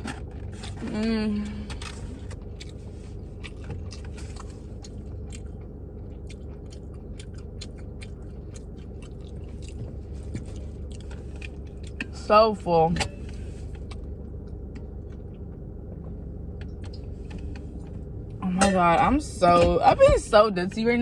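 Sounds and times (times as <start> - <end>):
person chewing food: 0.0 - 12.2, 13.2 - 18.4
low steady hum: 0.0 - 21.0.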